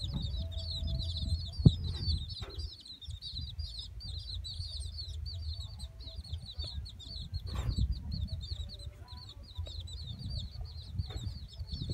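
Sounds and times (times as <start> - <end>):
chicks peeping: 0.0 - 11.9
low rumble: 0.0 - 11.9.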